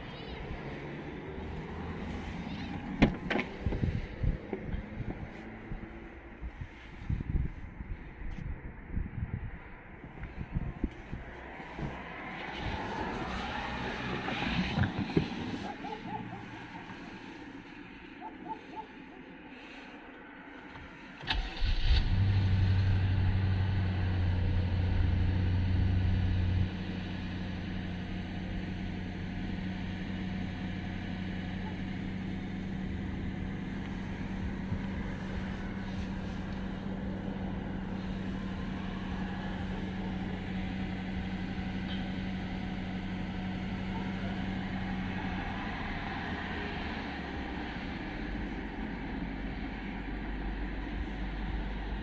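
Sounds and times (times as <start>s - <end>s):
car engine starting and idling: 0.0s - 8.4s, 9.6s - 52.0s.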